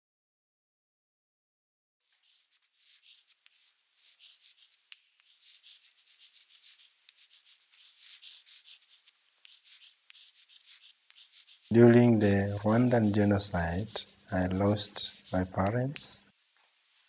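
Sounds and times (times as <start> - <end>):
scratchy rustling swishes: 2.0 - 16.1.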